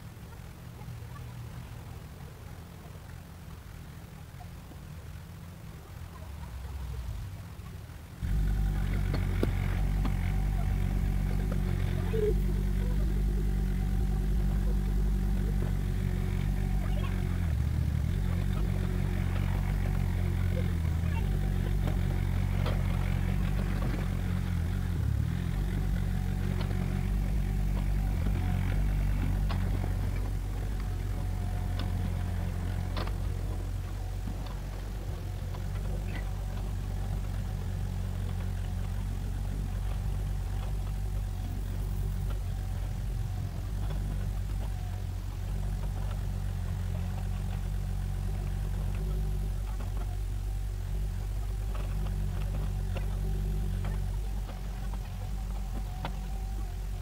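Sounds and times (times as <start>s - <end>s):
excavator diesel engine running: 8.2s - 57.0s.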